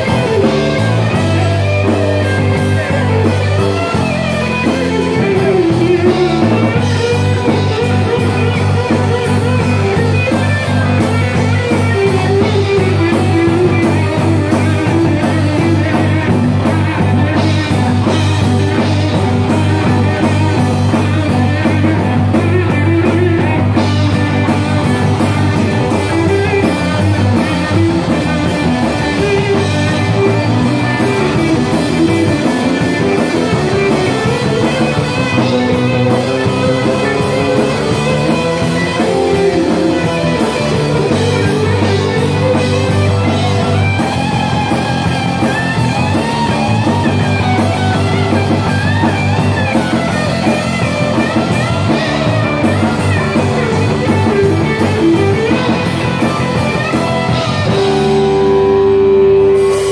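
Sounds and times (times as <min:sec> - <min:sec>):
drum kit with cymbal beat: 0:00.0 - 0:59.9
electric bass: 0:00.0 - 0:59.9
electric guitar: 0:00.0 - 0:59.9.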